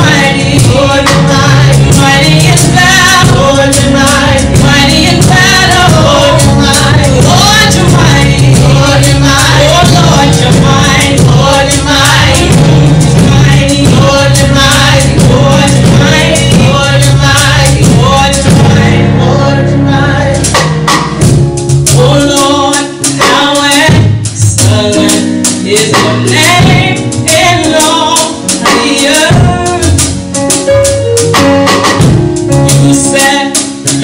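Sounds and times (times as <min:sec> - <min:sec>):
gospel group singing: 0:00.0 - 0:30.9, 0:31.8 - 0:34.0
band with drum kit: 0:00.0 - 0:34.0.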